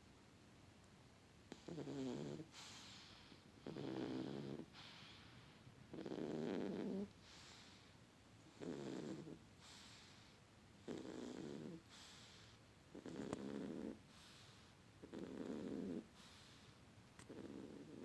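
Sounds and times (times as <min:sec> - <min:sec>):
kitten snoring: 0:01.5 - 0:05.3, 0:05.9 - 0:07.8, 0:08.5 - 0:18.0.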